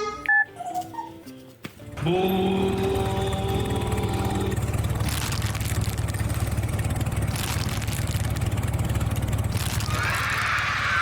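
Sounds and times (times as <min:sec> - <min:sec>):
small engine running: 0:02.0 - 0:11.0.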